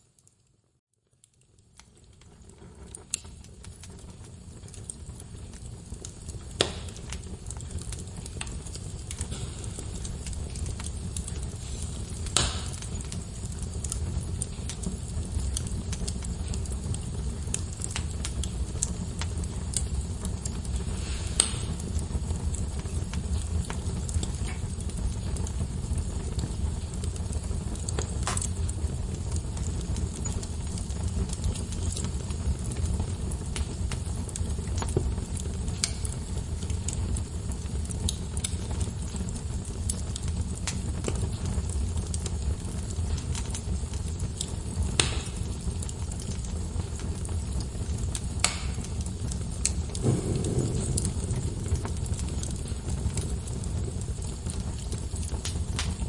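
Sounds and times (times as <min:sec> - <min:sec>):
fire popping: 0:00.0 - 0:56.0
wood fire crackling: 0:00.0 - 0:56.0
fire rumbling: 0:01.1 - 0:56.0.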